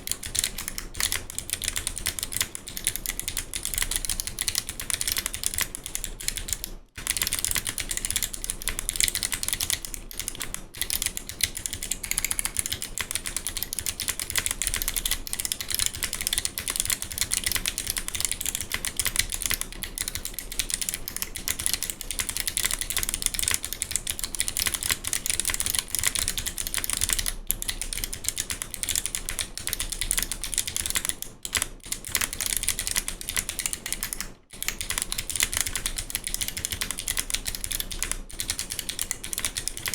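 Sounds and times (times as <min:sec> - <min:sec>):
clicky mechanical keyboard typing: 0:00.0 - 0:39.9.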